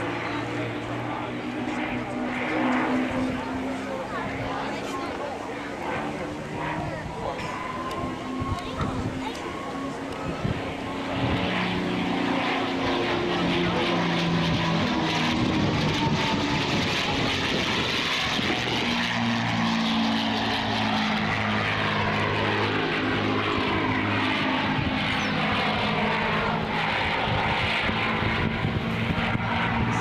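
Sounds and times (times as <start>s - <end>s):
piston aircraft engines droning: 0.0s - 30.0s.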